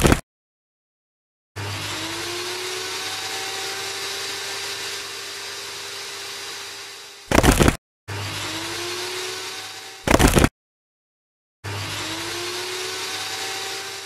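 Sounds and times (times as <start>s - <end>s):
small electric motor whirring: 1.6s - 10.5s, 11.6s - 14.0s.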